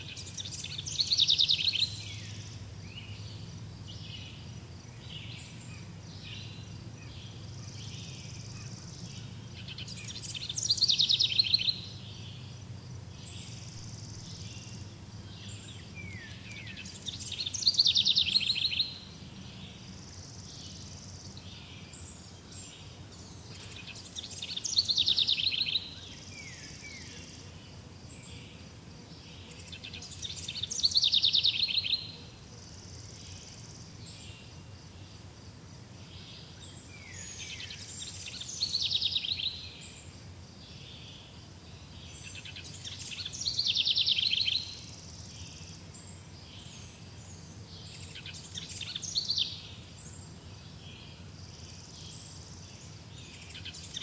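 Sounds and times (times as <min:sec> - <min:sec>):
small bird singing trills: 0:00.0 - 0:28.6, 0:29.2 - 0:35.1, 0:36.0 - 0:54.0
faint background hiss: 0:00.0 - 0:54.0.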